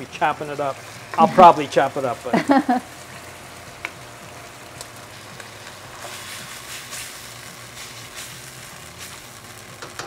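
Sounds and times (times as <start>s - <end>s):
tofu sizzling in a wok: 0.0s - 10.0s.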